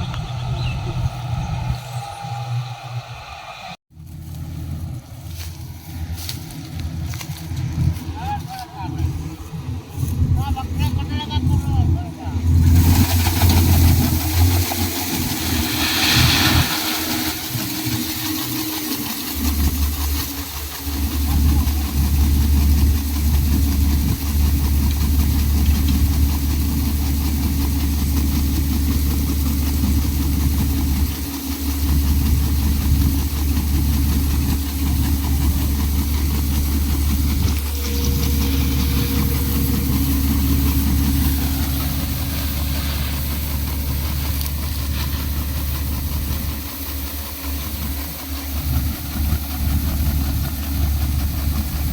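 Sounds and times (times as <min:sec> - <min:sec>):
vehicle engine humming: 0:00.0 - 0:51.9.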